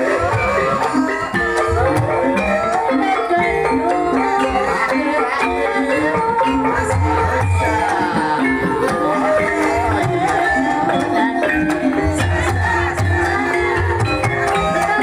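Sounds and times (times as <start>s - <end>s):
drum strokes: 0.0s - 15.0s
tuned percussion notes: 0.0s - 15.0s
wavering melody line: 0.0s - 15.0s.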